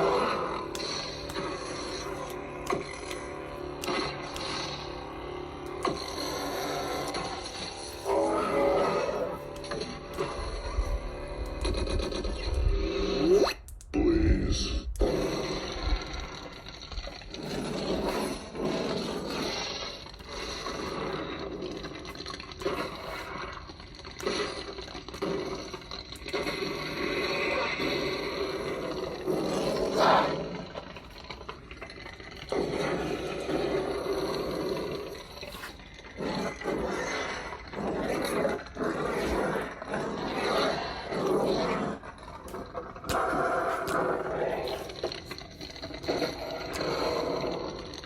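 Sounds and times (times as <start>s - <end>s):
lightsaber hum and swings: 0.0s - 48.0s.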